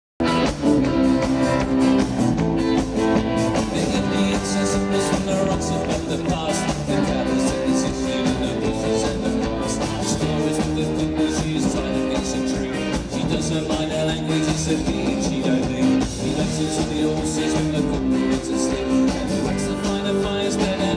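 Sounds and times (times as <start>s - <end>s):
live rock band playing: 0.2s - 20.9s.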